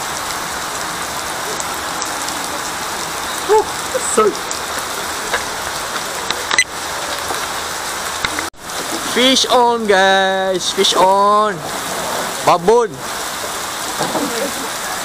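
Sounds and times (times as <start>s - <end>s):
heavy rain on pond: 0.0s - 15.0s.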